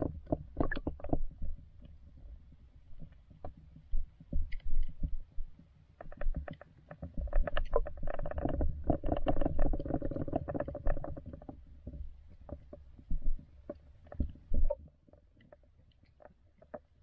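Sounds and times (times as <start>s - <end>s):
underwater clicks and knocks: 0.0s - 2.4s, 3.0s - 17.0s.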